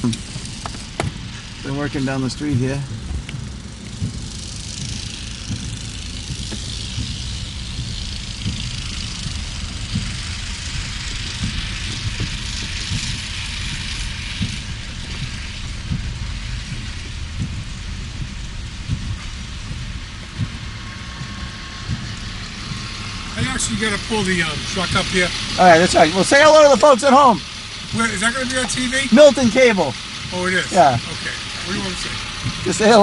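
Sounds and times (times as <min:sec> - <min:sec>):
low thumps: 0:00.0 - 0:26.5, 0:32.2 - 0:32.9
low street rumble: 0:00.0 - 0:33.0
vehicle passing on wet snow: 0:00.0 - 0:33.0.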